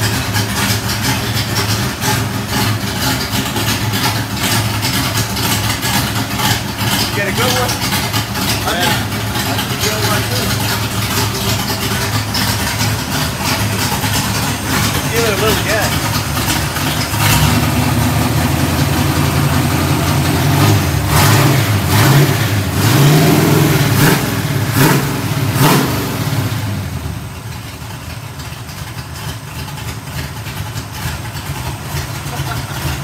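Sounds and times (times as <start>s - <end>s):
engine throttle blips: 0.0s - 27.4s
engine idling: 0.0s - 33.0s.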